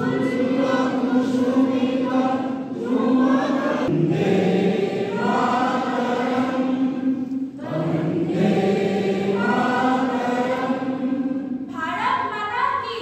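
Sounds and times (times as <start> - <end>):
crowd singing in unison: 0.0 - 11.7.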